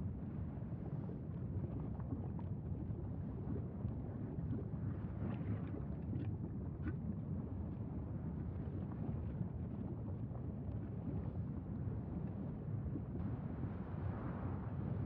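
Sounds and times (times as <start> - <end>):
steady low rumbling noise: 0.0 - 15.0.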